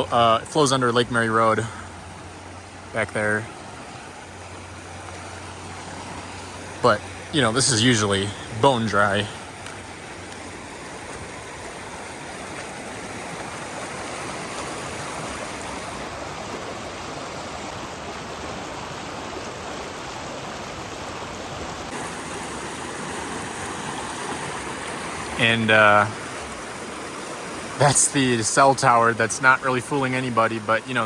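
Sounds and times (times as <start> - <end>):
water rushing down spillway: 0.0 - 31.0.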